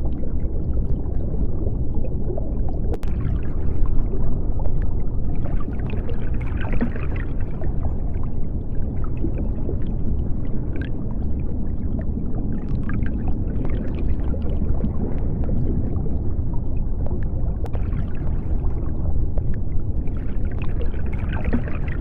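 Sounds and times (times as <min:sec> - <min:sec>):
faint underwater clicks and crackles: 0:00.0 - 0:22.0
underwater rumble of moving water: 0:00.0 - 0:22.0.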